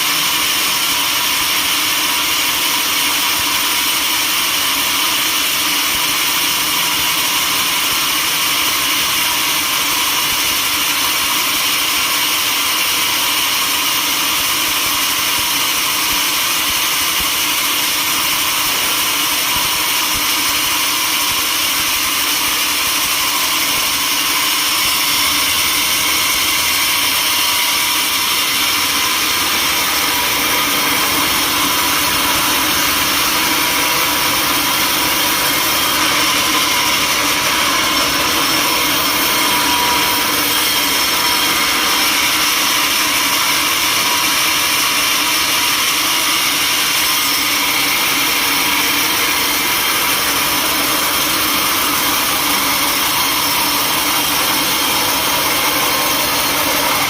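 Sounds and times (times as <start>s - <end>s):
sawmill machinery whining: 0.0s - 57.0s.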